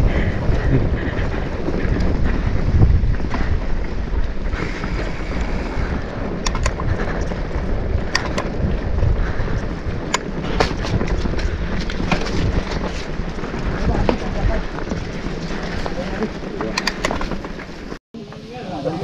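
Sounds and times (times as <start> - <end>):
tyres rumbling on stone: 0.0 - 18.0
wind rushing over microphone: 0.0 - 18.0.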